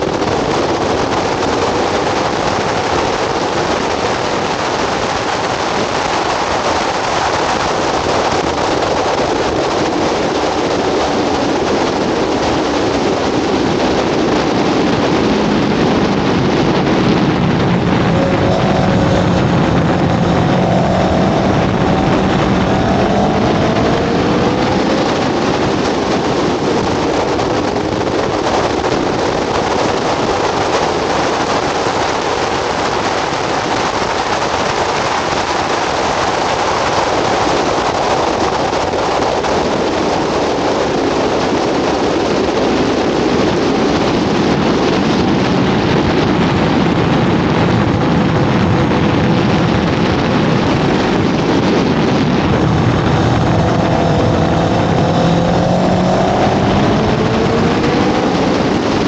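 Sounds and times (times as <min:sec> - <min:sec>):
motorcycle engine running hard: 0:00.0 - 0:59.0
wind rushing on microphone: 0:00.0 - 0:59.0.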